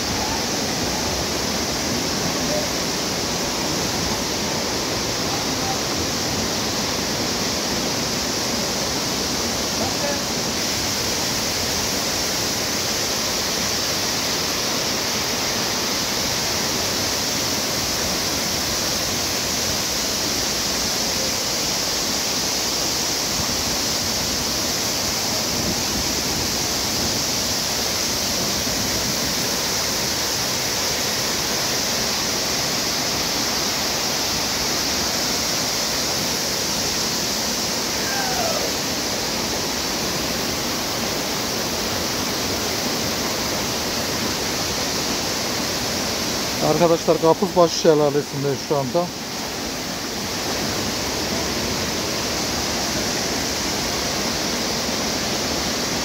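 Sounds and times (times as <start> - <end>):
waterfalls rushing: 0.0 - 56.0.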